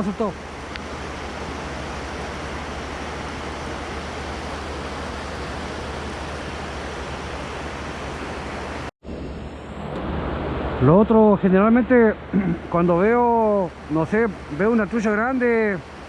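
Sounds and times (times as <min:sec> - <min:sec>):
river water rushing: 0:00.0 - 0:08.9, 0:11.8 - 0:16.0.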